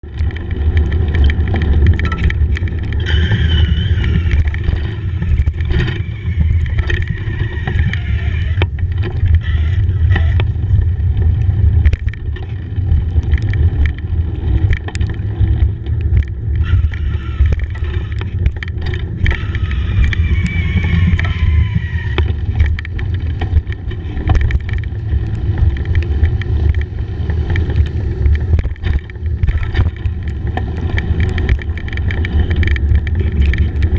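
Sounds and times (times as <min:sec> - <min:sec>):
knocks and rattles: 0:00.0 - 0:33.9
tyres on wet path: 0:00.0 - 0:33.9
wind rumble on microphone: 0:00.0 - 0:33.9
faint whining tones: 0:01.8 - 0:33.9.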